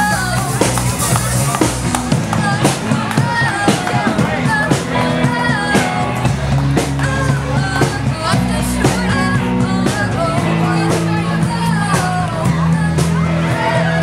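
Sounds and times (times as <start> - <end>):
steady drum beat: 0.0 - 14.0
sustained bass line: 0.0 - 14.0.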